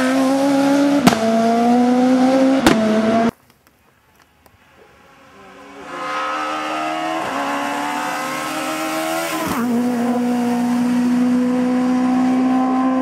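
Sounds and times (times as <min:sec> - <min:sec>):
rally car engine passing: 0:00.0 - 0:03.3, 0:05.0 - 0:13.0.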